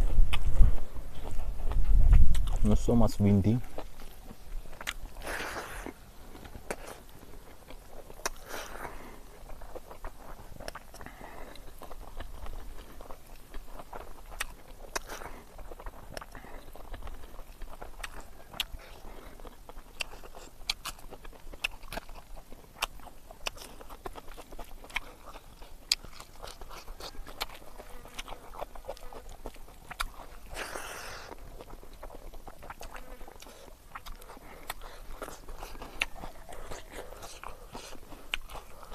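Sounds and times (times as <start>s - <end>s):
person chewing and lip smacking: 0.0s - 38.9s.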